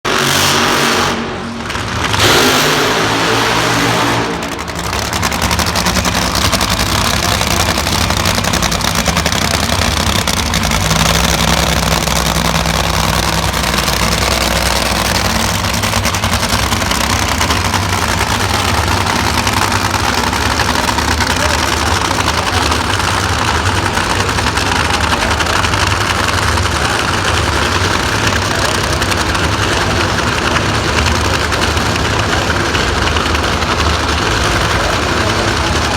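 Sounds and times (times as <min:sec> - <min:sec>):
drag-racing engines idling: 0:00.0 - 0:35.9.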